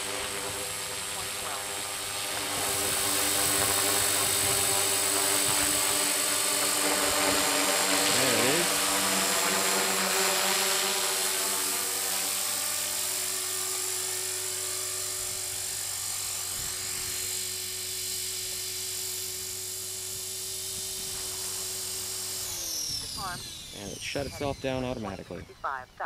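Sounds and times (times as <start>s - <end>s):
rc helicopter rotor whining: 0.0s - 26.0s.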